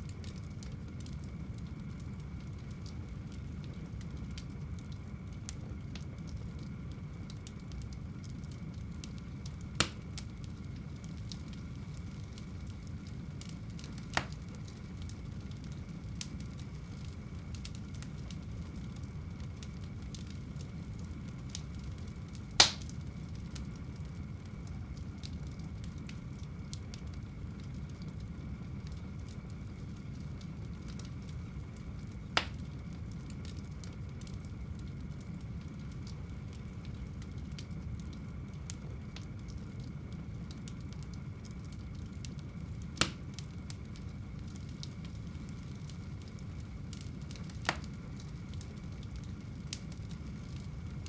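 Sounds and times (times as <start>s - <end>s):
fireplace fire crackling: 0.0s - 51.0s.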